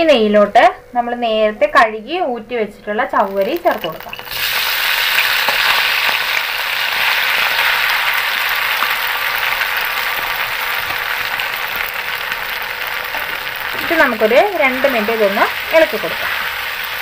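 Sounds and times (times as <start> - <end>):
food sizzling in a pan: 3.2 - 17.0.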